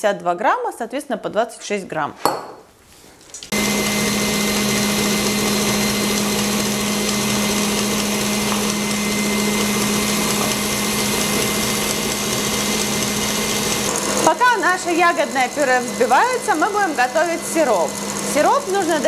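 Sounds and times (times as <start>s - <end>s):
stand mixer motor hum: 3.5s - 19.0s
whisk beating mixture: 3.5s - 19.0s.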